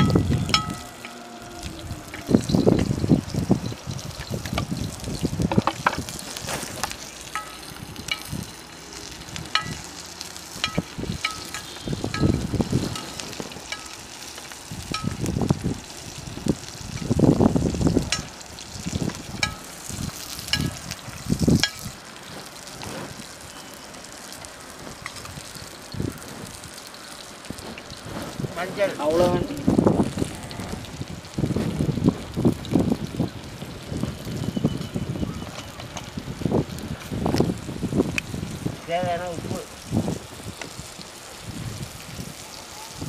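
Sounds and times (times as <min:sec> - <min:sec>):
onions sizzling in hot oil: 0:00.0 - 0:43.0.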